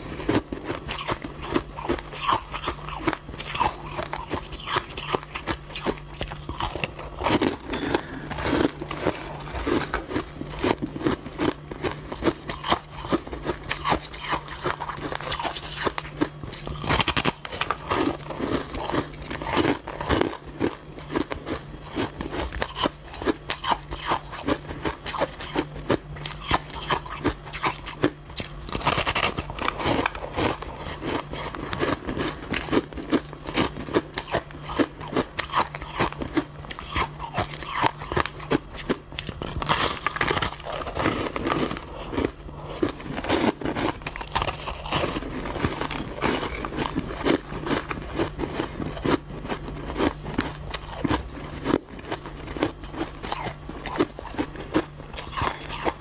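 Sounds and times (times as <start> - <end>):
chewing crunchy shaved ice: 0.0 - 56.0.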